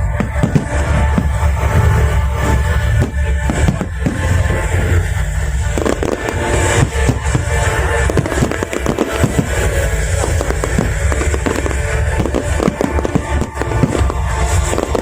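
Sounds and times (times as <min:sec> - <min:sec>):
background music: 0:00.0 - 0:15.0
fireworks crackling and popping: 0:00.0 - 0:15.0.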